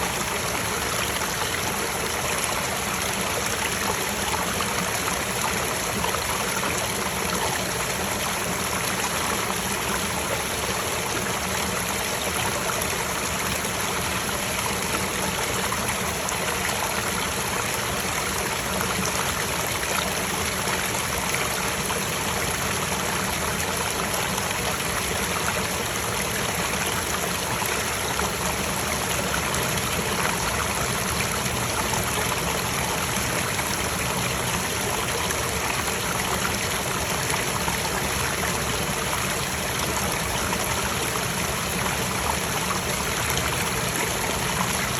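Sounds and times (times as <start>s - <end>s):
stream running over rocks: 0.0s - 44.9s.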